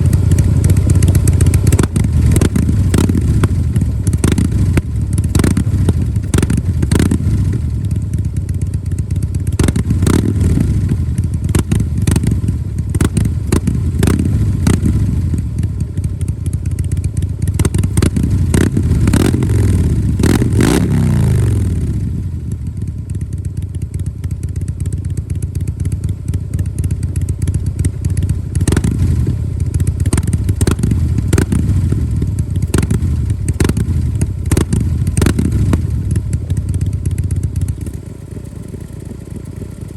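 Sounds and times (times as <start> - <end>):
motorcycle engine revving: 0.0 - 23.3, 24.5 - 39.9.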